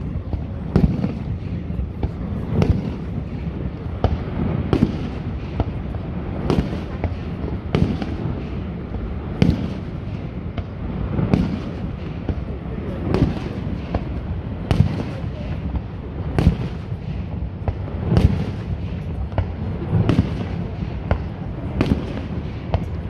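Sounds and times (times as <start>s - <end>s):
fireworks bursting with sharp bangs: 0.0s - 23.0s.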